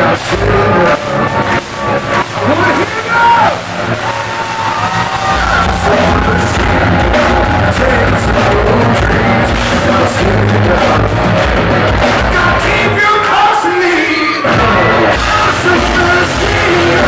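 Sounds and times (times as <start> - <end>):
bass guitar: 0.0 - 13.4, 14.4 - 17.0
distorted electric guitars: 0.0 - 17.0
drums: 0.0 - 17.0.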